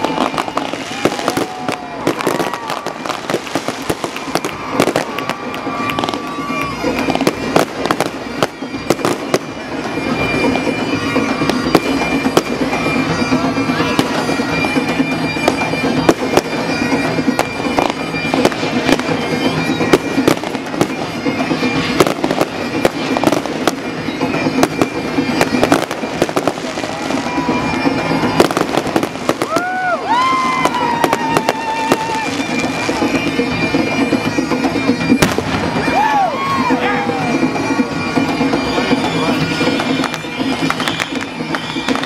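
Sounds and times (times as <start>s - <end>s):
fireworks bangs and crackling: 0.0s - 42.0s
music with steady drone: 0.0s - 42.0s.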